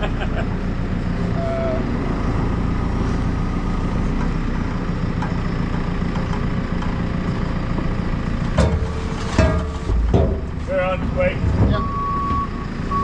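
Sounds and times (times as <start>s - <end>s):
large diesel engine idling: 0.0s - 13.0s.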